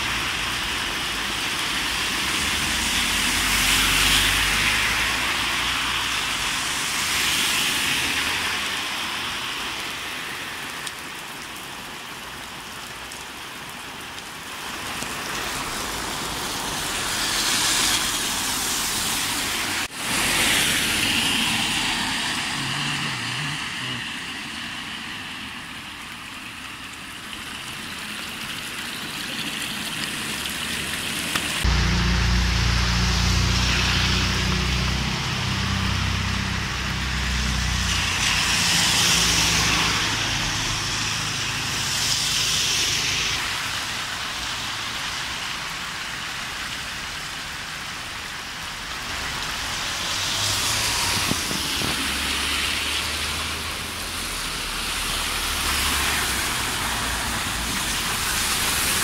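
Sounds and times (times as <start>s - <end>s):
cars swishing through water: 0.0s - 59.0s
heavy rain hissing on road: 0.0s - 59.0s.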